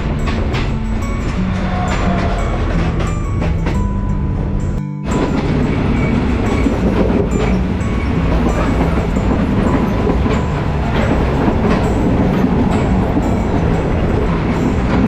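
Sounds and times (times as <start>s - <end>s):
train rumbling: 0.0s - 15.0s
wheels clacking over rails: 0.0s - 15.0s.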